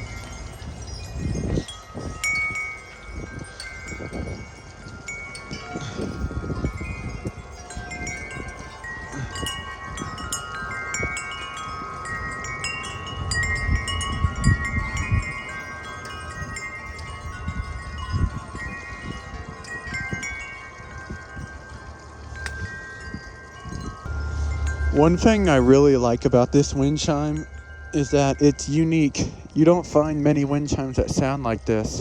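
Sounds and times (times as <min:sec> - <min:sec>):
metal wind chime ringing: 0:00.0 - 0:32.0
wind rumbling on microphone: 0:00.0 - 0:32.0.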